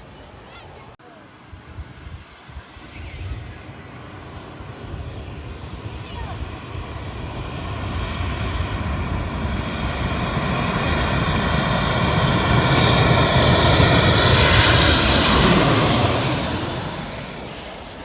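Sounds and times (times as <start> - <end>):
jet airliner passing overhead: 0.0 - 18.0.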